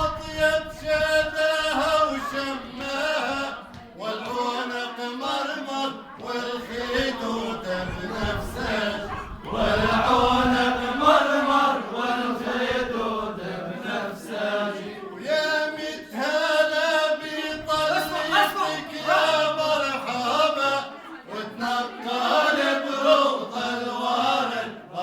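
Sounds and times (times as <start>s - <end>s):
man singing unaccompanied: 0.0s - 25.0s.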